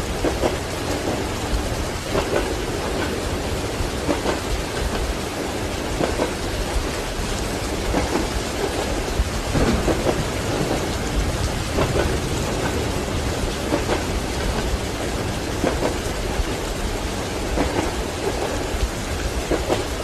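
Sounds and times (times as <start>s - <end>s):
heavy rain: 0.0s - 20.0s
low rumble of thunder: 0.0s - 20.0s.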